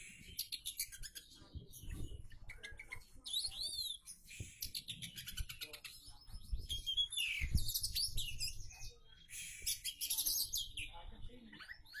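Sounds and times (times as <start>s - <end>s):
magpie-robin singing: 0.0s - 12.0s.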